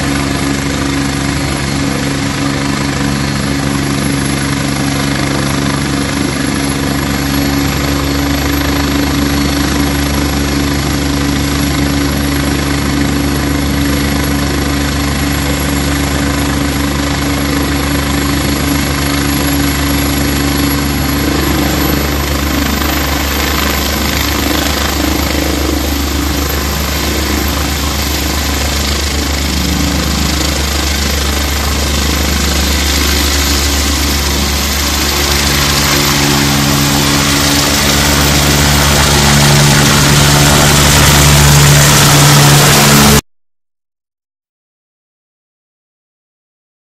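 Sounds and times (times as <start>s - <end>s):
helicopter rotor hum: 0.0s - 43.2s
turbine whine: 0.0s - 43.2s.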